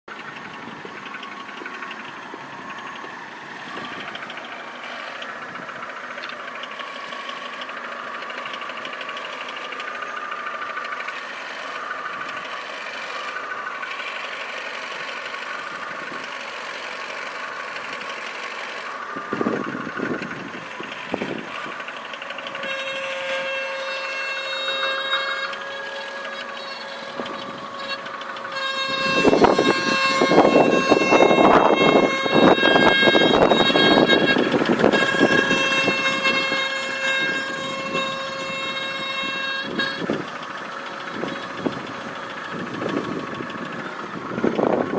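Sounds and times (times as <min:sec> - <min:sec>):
car buzzing rattle: 0:00.0 - 0:44.9
steady whining tone: 0:00.0 - 0:44.9.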